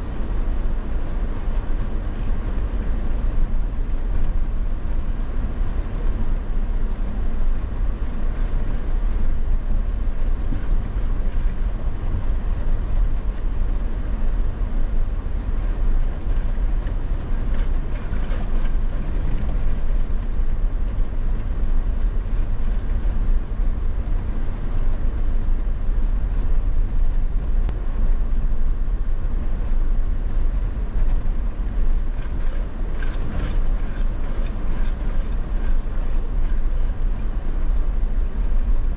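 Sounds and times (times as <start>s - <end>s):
off-road vehicle engine rumble: 0.0s - 38.9s.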